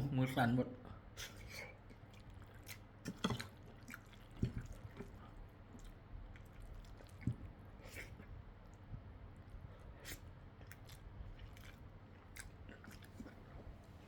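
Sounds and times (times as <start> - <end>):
wet chewing: 1.2 - 14.0.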